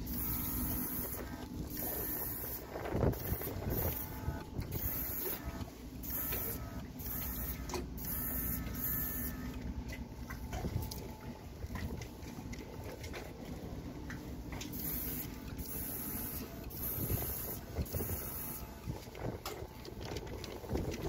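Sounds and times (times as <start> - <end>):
compressor humming: 0.0 - 21.0.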